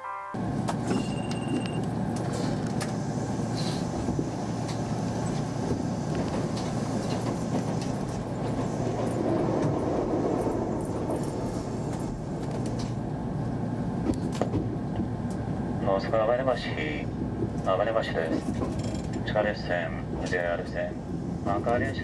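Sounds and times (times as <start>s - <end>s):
train wheels rumbling on rails: 0.4s - 22.0s.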